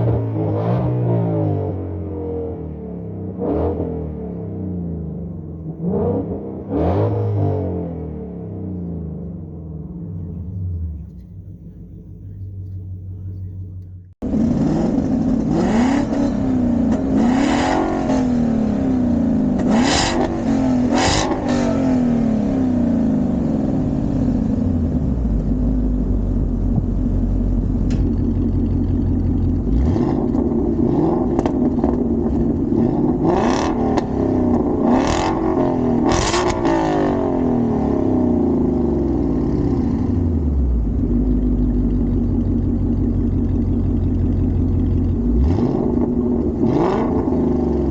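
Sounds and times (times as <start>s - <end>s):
engine throttle blips: 0.0s - 47.9s
car engine idling: 4.0s - 6.7s, 7.8s - 47.9s.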